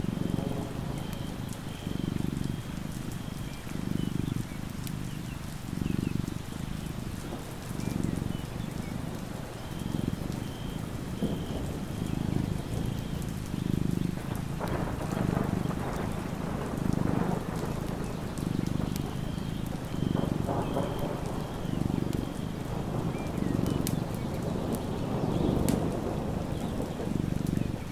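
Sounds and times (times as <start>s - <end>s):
low thunder rumble: 0.0s - 27.9s
rain: 0.0s - 27.9s.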